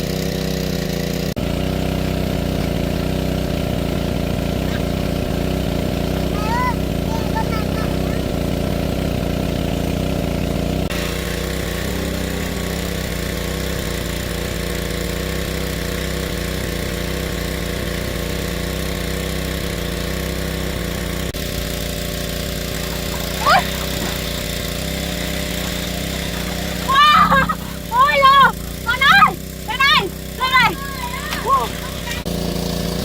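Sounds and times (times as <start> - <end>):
small engine running: 0.0 - 33.0.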